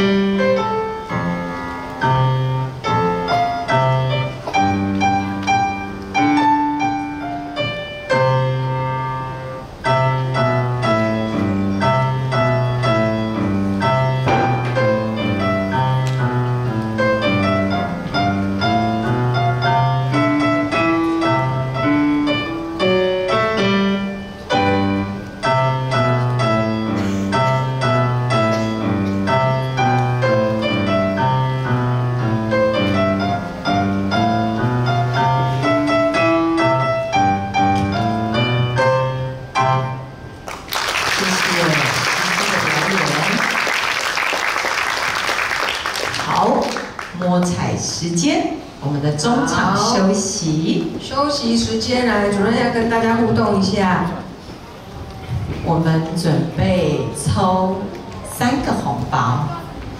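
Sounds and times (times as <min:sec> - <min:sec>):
piano melody: 0:00.0 - 0:59.9.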